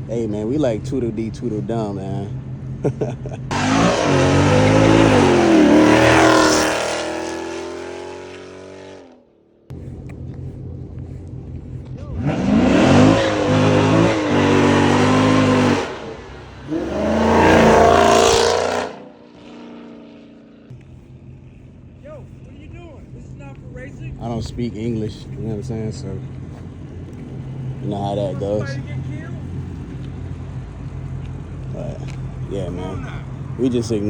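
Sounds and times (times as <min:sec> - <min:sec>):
car exhaust revving: 0:00.0 - 0:34.0.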